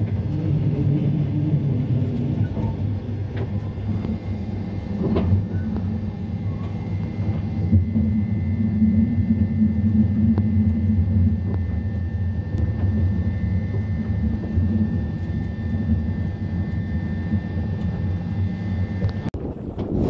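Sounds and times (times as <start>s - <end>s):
electric train rumbling: 0.0s - 20.0s
thin high whine of train: 0.0s - 20.0s.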